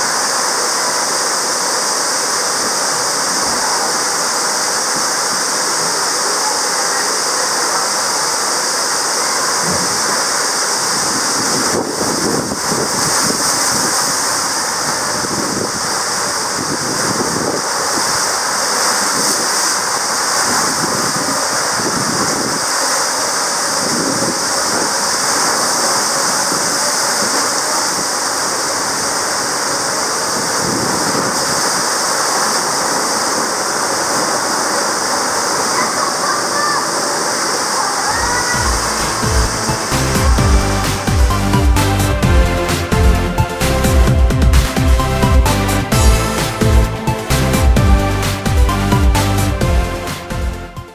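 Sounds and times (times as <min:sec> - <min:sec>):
water rushing down a water slide: 0:00.0 - 0:42.4.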